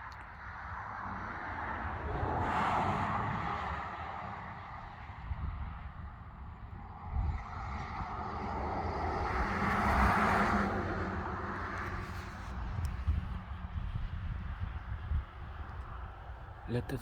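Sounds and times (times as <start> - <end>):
car passing tyre noise: 0.3 - 17.0.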